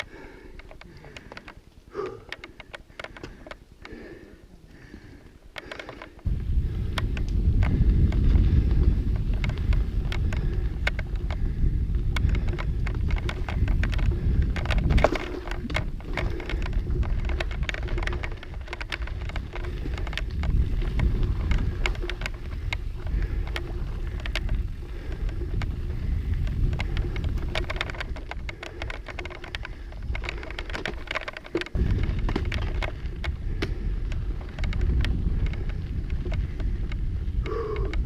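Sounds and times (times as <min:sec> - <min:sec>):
bike tyres rattling on gravel: 0:00.0 - 0:04.2, 0:04.8 - 0:38.0
wind buffeting microphone: 0:00.0 - 0:38.0.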